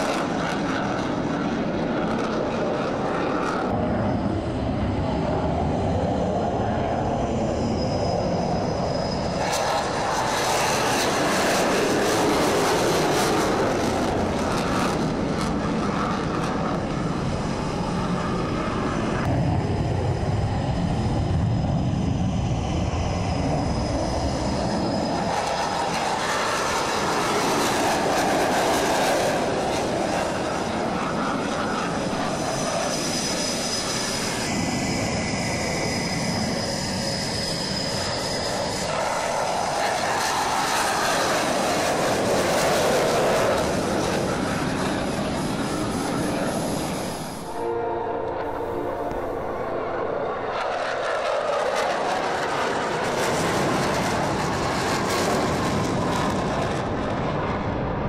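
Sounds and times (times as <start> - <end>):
faint high engine whine: 0.0 - 58.0.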